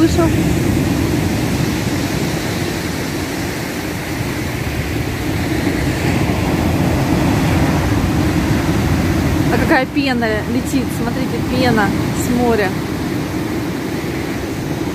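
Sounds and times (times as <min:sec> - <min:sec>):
surf breaking on beach: 0:00.0 - 0:14.9.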